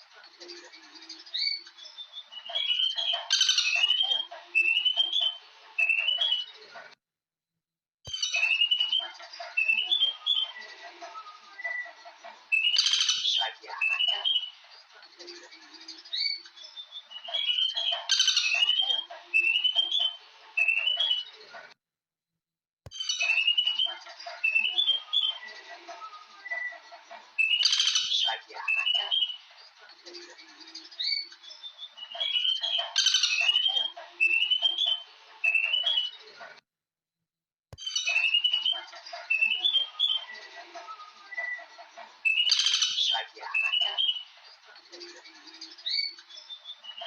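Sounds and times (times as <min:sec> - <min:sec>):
birds chirping: 0:00.0 - 0:07.0, 0:08.1 - 0:21.8, 0:22.9 - 0:36.6, 0:37.8 - 0:47.0.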